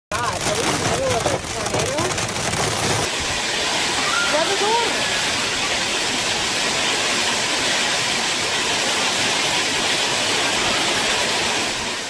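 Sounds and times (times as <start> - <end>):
heavy rain pouring: 0.1 - 12.0.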